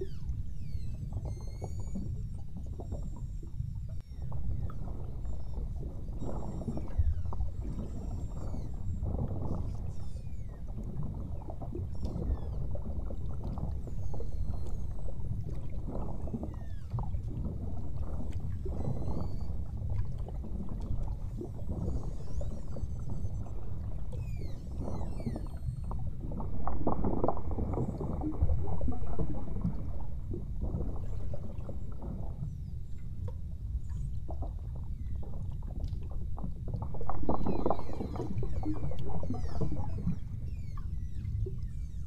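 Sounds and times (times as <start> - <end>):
whale whistles and chirps: 0.0 - 35.9, 36.9 - 42.0
low rumble of water and boat: 0.0 - 42.0.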